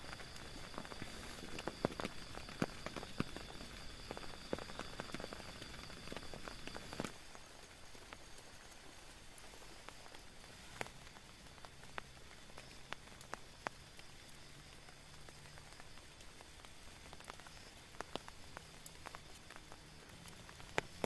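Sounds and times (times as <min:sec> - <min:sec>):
rain hissing on a tent: 0:00.0 - 0:21.0
raindrop taps: 0:00.1 - 0:07.2, 0:09.8 - 0:21.0.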